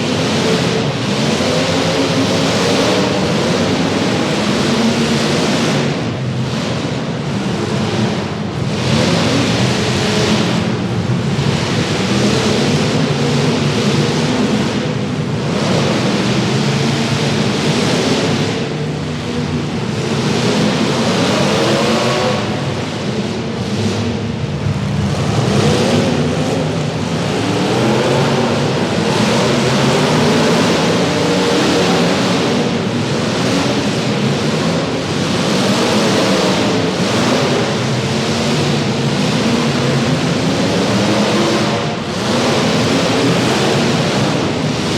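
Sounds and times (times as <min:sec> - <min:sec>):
car engines revving: 0:00.0 - 0:44.9
steady rush of noise: 0:00.0 - 0:44.9.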